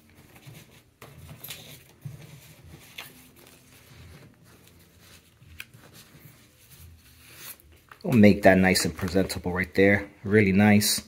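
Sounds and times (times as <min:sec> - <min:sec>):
paper rustling: 0:00.0 - 0:09.7.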